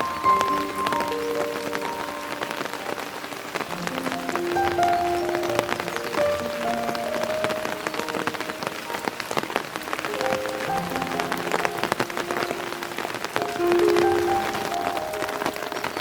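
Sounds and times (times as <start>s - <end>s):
rain drops ticking: 0.0s - 16.0s
soft music of held notes: 0.0s - 16.0s.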